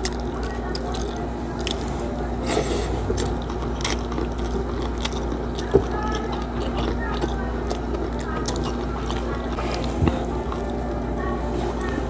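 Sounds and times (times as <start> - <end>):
close chewing and mouth sounds: 0.0 - 12.0
steady low hum: 0.0 - 12.0.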